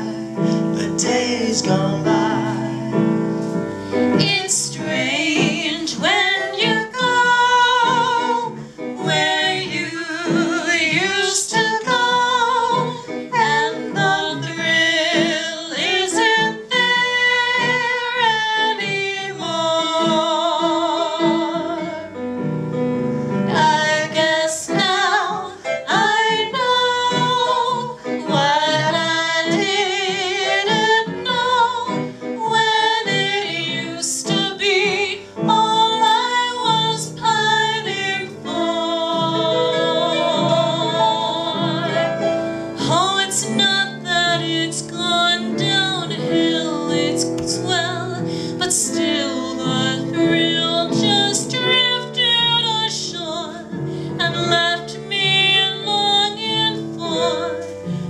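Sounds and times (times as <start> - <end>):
women singing with vibrato: 0.0 - 22.1, 23.5 - 58.0
keyboard accompaniment: 0.0 - 58.0.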